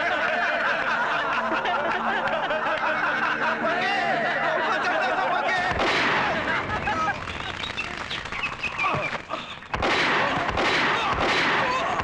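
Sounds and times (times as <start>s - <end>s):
men laughing: 0.0s - 12.0s.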